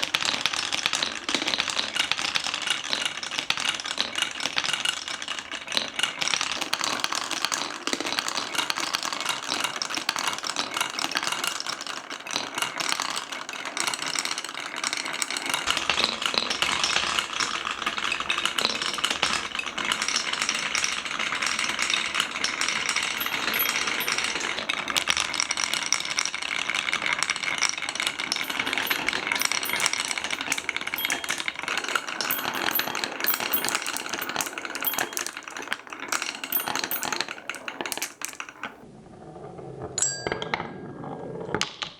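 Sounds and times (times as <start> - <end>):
marbles rattling down wooden tracks: 0.0 - 38.8.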